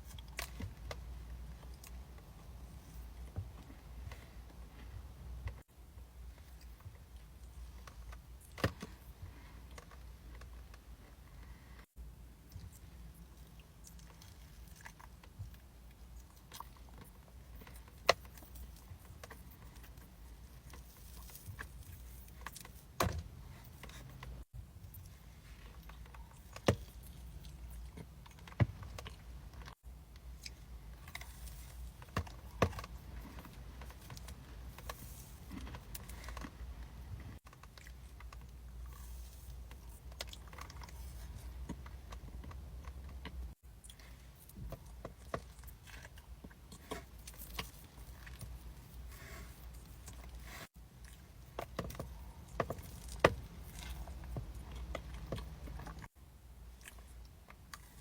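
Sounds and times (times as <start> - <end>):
chewing and crunching cookies: 0.0 - 5.1, 6.0 - 58.0.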